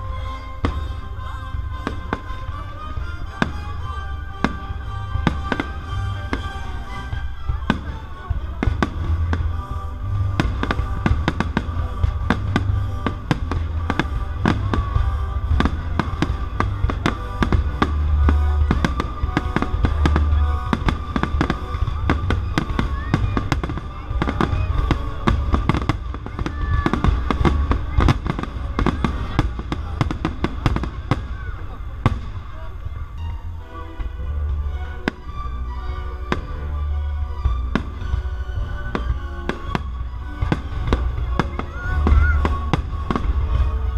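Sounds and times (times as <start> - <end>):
fireworks bangs and crackles: 0.0 - 43.9
orchestral music: 0.0 - 43.9.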